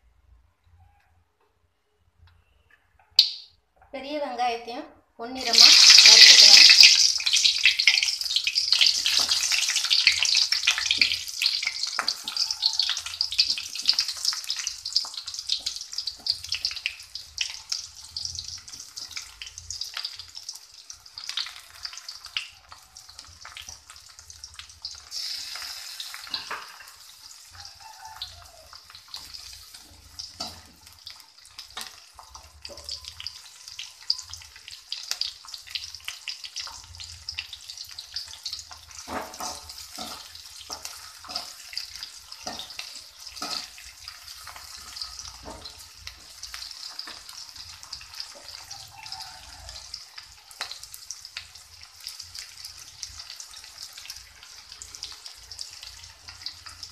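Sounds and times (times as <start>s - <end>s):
onions sizzling in oil: 5.3s - 56.9s.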